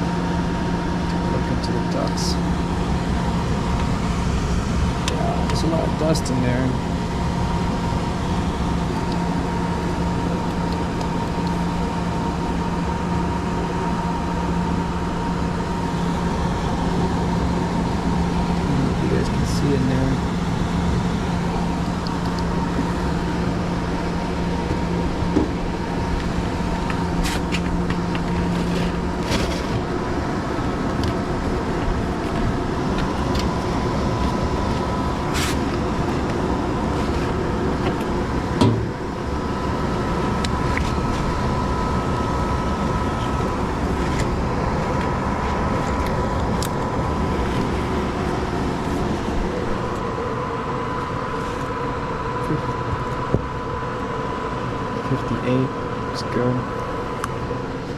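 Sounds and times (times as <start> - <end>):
fan and airflow noise: 0.0 - 57.9
low hum: 0.0 - 57.9.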